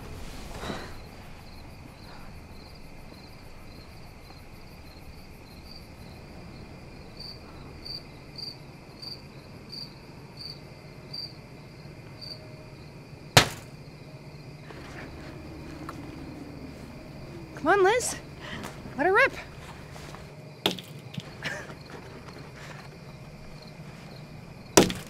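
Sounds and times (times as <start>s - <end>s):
crickets chirping: 0.0s - 25.0s
low background hum: 0.0s - 25.0s.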